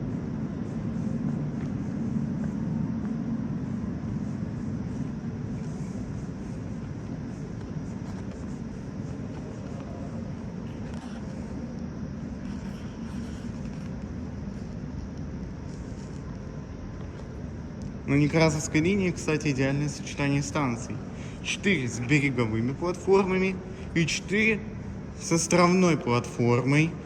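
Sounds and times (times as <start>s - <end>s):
subway train rumbling: 0.0s - 27.0s.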